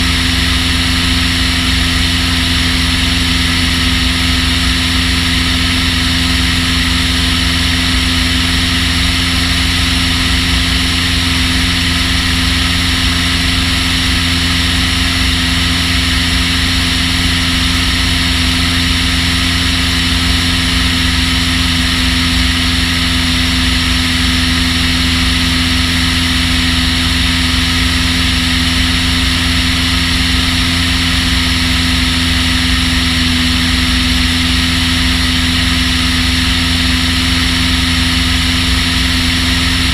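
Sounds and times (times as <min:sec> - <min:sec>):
aircraft propeller engine running: 0:00.0 - 0:39.9
steady low rumble: 0:00.0 - 0:39.9.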